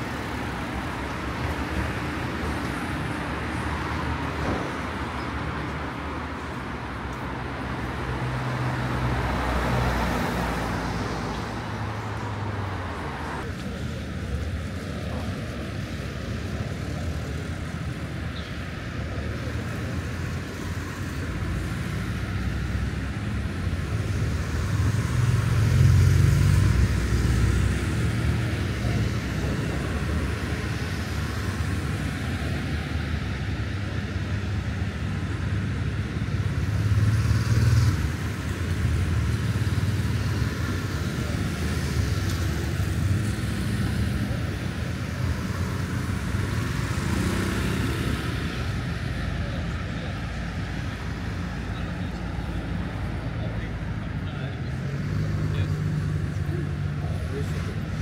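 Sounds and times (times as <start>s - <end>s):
vehicles driving past: 0.0s - 58.0s.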